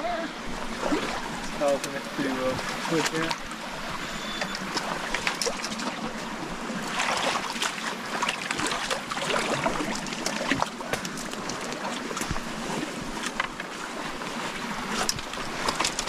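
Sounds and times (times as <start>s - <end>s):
small splashes of wading: 0.0s - 16.0s
stream water splashing: 0.0s - 16.0s.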